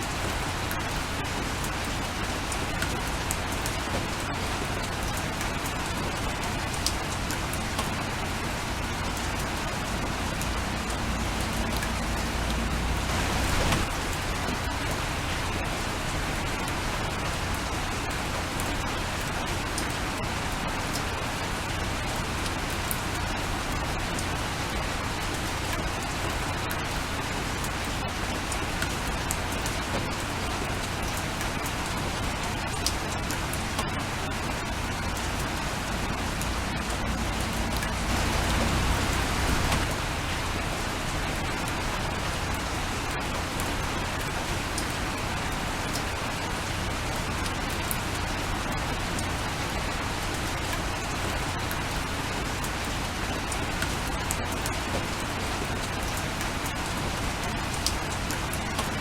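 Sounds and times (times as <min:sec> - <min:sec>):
steady rain falling: 0:00.0 - 0:59.0
raindrops ticking: 0:00.6 - 0:51.8.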